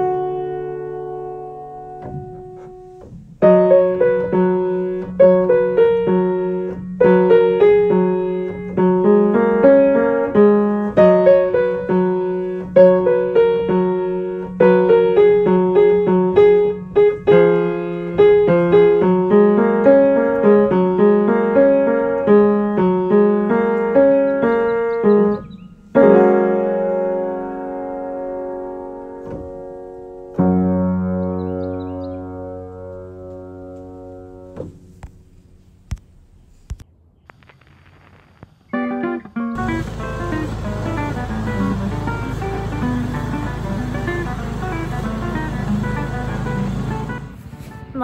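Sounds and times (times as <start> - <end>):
solo piano music: 0.0 - 35.9, 38.7 - 48.0.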